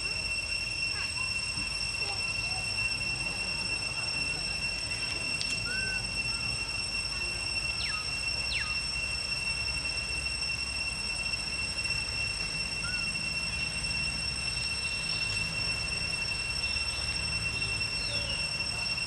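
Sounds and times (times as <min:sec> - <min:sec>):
high-pitched insect drone: 0:00.0 - 0:19.0
quick falling whistles: 0:00.0 - 0:19.0.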